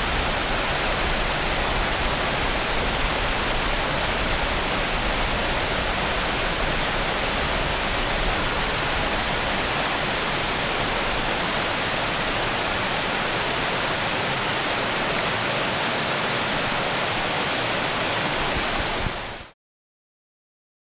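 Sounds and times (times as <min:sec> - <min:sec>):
stream running: 0:00.0 - 0:19.5.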